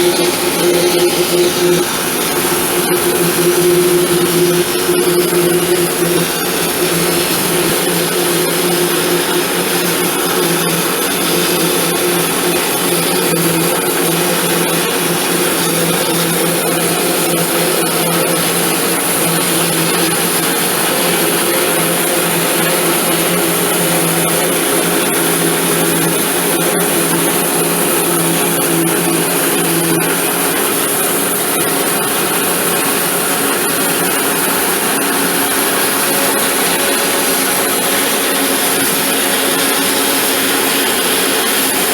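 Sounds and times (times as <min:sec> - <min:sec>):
electric power tool running: 0:00.0 - 0:41.9.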